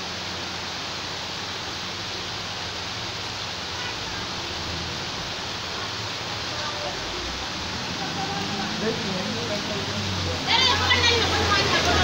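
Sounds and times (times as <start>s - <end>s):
floodwater rushing from drain: 0.0s - 12.0s.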